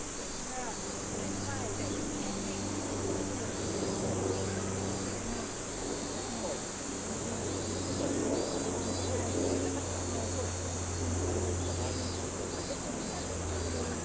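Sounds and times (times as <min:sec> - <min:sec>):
insects droning: 0:00.0 - 0:14.0
low steady hum: 0:00.0 - 0:14.0
people talking: 0:00.2 - 0:14.0.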